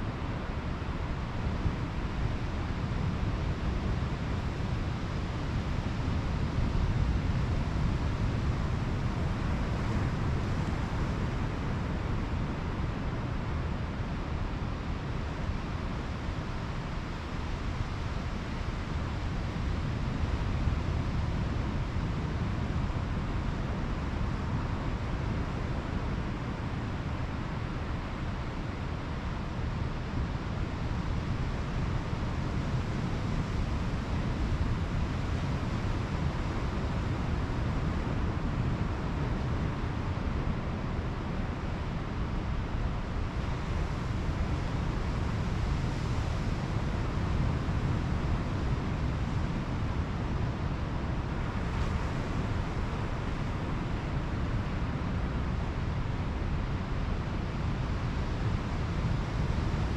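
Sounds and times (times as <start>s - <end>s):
surf washing on a beach: 0.0s - 59.9s.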